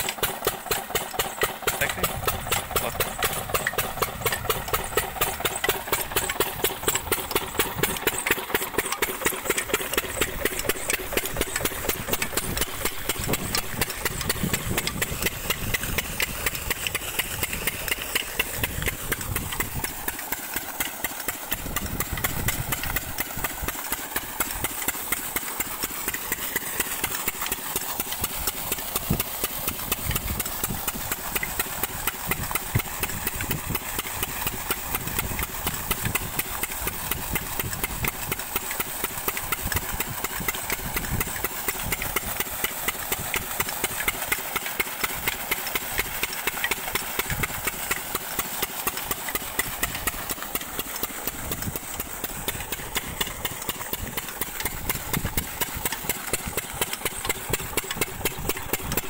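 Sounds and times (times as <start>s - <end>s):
diesel engine knocking: 0.0s - 59.0s
water gushing from pipe: 0.0s - 59.0s.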